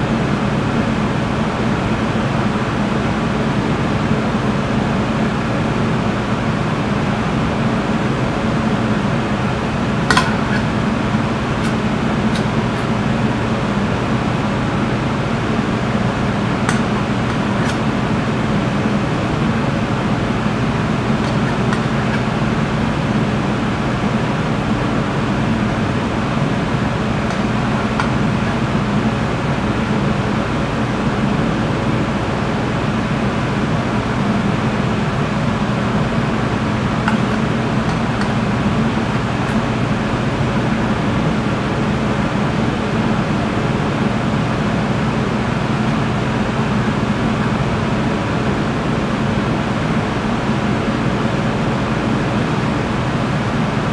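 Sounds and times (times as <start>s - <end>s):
ventilation fan hum: 0.0s - 53.9s.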